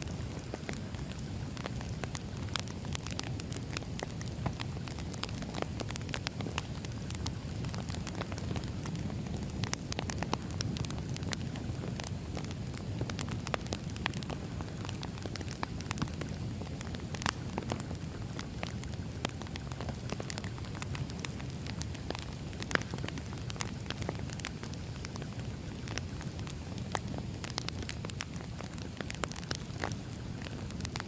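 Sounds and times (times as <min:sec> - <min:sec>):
firewood crackling and popping: 0:00.0 - 0:31.0
low rumble of flames: 0:00.0 - 0:31.0.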